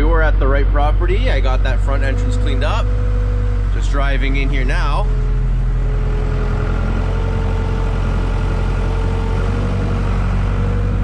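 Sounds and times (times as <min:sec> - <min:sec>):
diesel engine running: 0:00.0 - 0:11.0
faint whine: 0:00.0 - 0:11.0.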